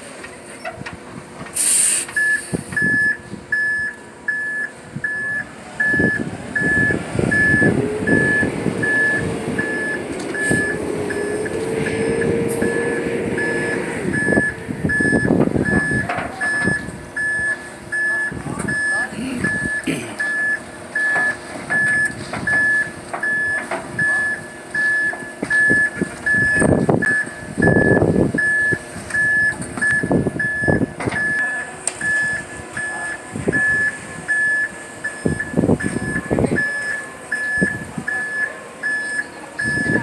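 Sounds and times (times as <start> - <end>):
reversing alarm beeping: 1.6 - 40.0.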